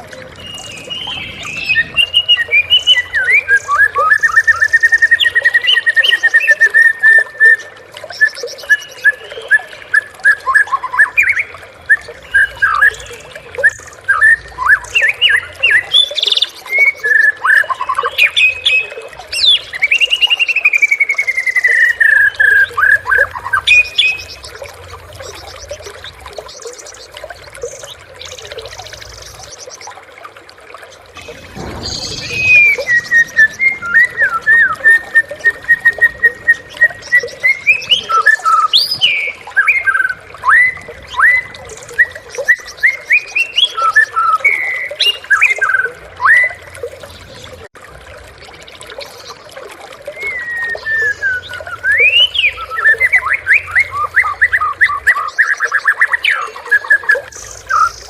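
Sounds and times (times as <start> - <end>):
bird singing whistled song: 0.4 - 24.7, 31.2 - 46.7, 50.1 - 58.0.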